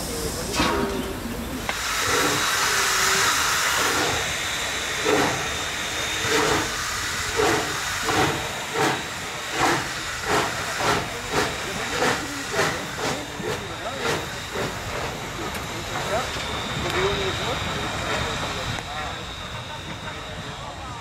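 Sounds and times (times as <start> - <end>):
locomotive exhaust chuffs: 0.0 - 21.0
steam locomotive hissing: 0.0 - 21.0.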